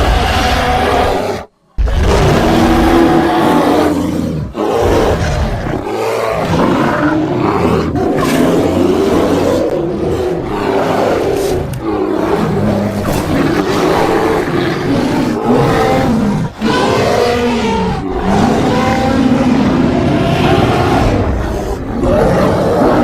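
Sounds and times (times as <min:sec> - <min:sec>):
rough roaring and growling calls: 0:00.0 - 0:23.0.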